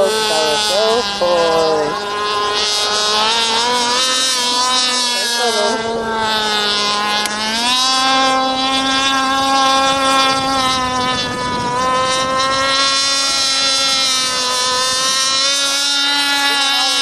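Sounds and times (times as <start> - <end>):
high-pitched motor whine: 0.0 - 17.0.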